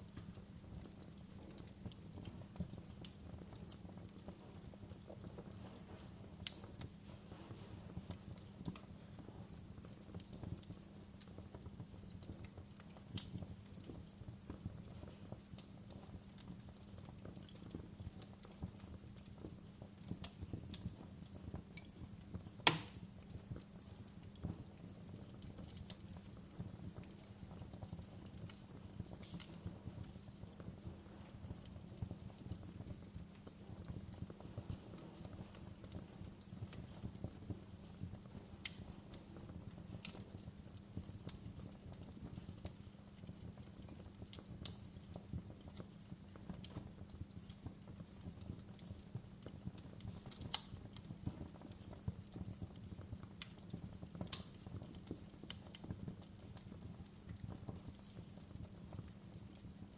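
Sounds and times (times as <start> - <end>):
burning logs popping and snapping: 0.0 - 59.9
fire low rumble: 0.0 - 59.9.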